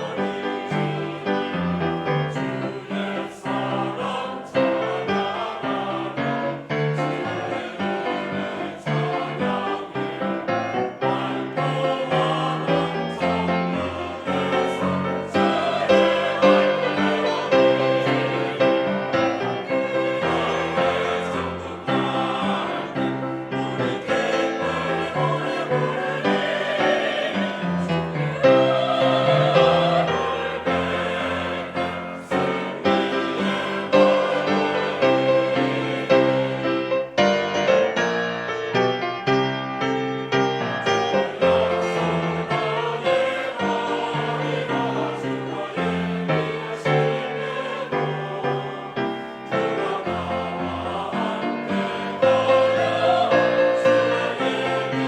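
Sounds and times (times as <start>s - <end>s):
church choir singing: 0.0s - 55.0s
piano accompaniment: 0.0s - 55.0s.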